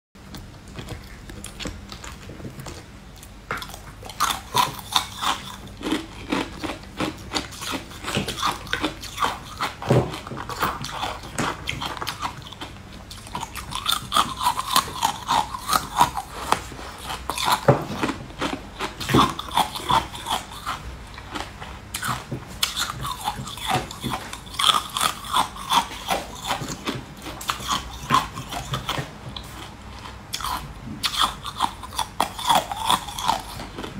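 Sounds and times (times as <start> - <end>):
crunchy chewing: 0.2 - 33.9.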